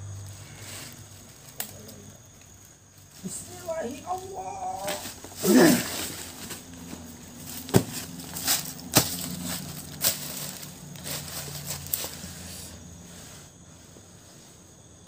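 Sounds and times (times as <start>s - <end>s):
low steady hum: 0.0s - 15.0s
dry leaves crunching: 0.2s - 13.2s.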